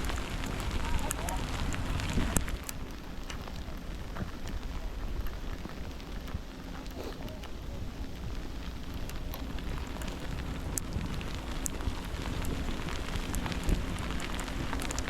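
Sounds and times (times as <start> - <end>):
rain-like crackling: 0.0 - 15.0.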